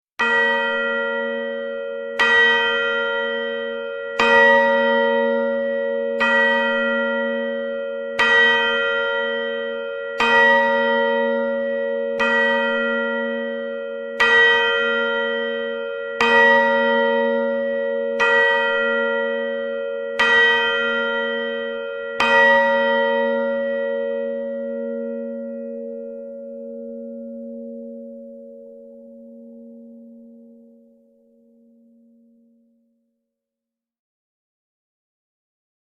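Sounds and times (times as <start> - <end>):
large clock bell striking: 0.2 - 32.2.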